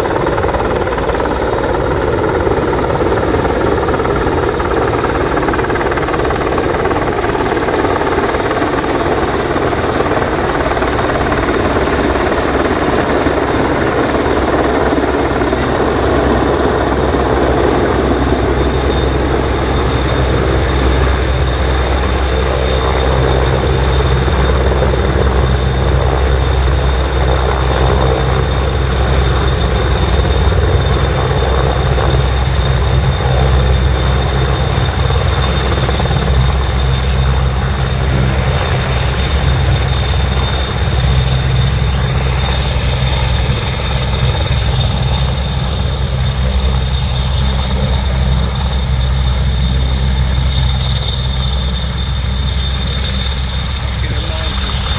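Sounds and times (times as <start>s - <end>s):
helicopter rotor beat: 0.0s - 54.9s
high turbine whine: 0.0s - 54.9s.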